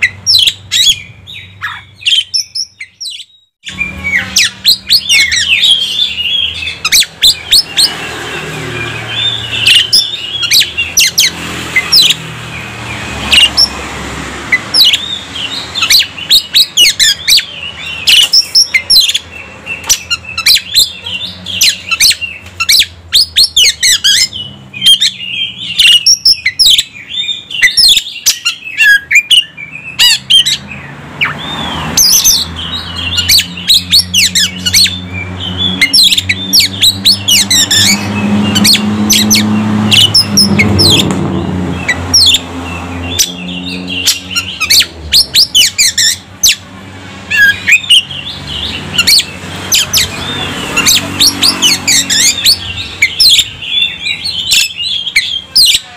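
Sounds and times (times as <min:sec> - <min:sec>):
bird singing whistles and chirps: 0:00.0 - 0:12.2, 0:14.5 - 0:46.6, 0:47.3 - 0:55.9.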